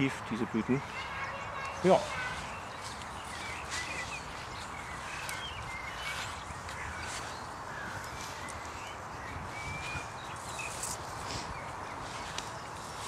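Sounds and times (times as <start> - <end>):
small birds chirping: 0.0 - 13.0
steady outdoor background: 0.0 - 13.0.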